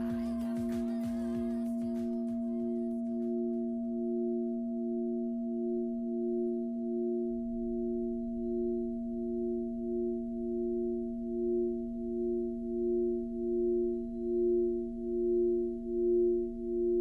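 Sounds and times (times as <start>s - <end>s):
pulsing ringing drone: 0.0s - 17.0s.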